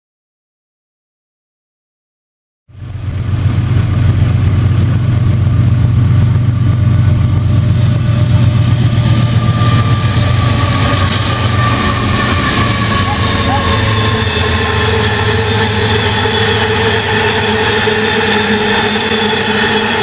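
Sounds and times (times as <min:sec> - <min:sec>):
diesel locomotive engine drone: 0:02.7 - 0:20.0
wheels hissing on rail: 0:02.8 - 0:20.0.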